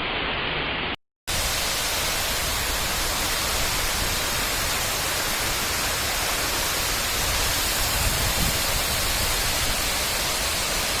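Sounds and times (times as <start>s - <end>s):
water rushing over rocks: 1.3s - 11.0s.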